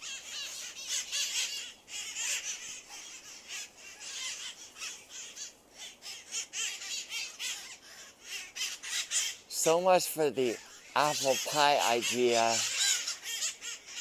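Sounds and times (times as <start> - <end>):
parrots squawking: 0.0 - 14.0.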